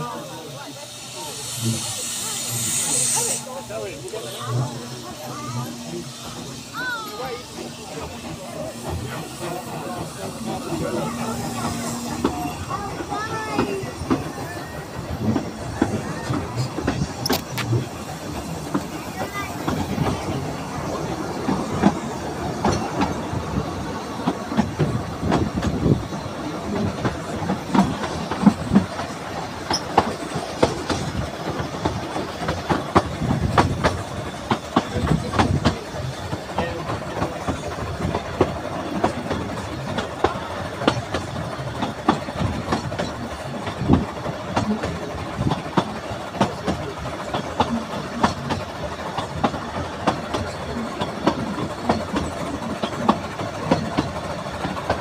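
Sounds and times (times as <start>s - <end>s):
train carriage rumble: 0.0s - 55.0s
wheels clicking over rail joints: 3.2s - 55.0s.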